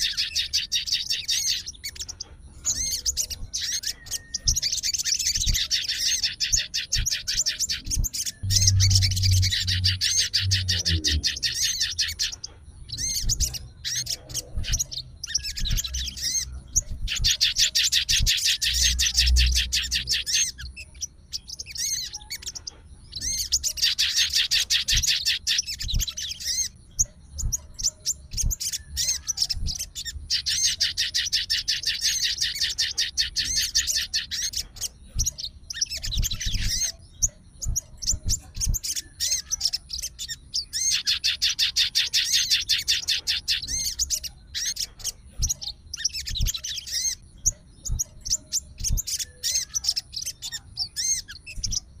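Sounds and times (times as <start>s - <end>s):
songbird trilling: 0.0s - 51.9s
bird chirps: 0.0s - 52.0s.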